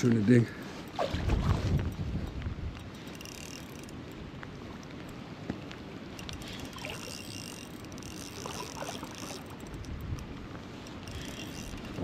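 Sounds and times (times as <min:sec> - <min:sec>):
water sloshing and trickling: 0:00.7 - 0:05.1, 0:06.0 - 0:12.0.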